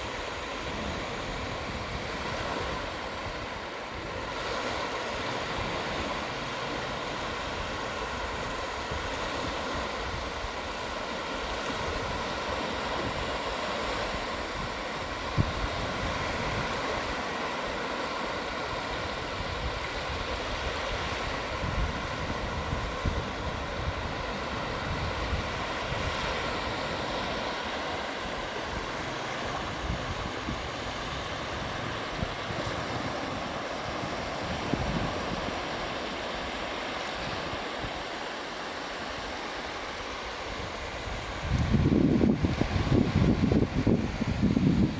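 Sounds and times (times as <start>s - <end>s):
wind buffeting microphone: 0.0s - 38.3s, 40.0s - 44.9s
sea waves breaking on beach: 0.0s - 44.9s.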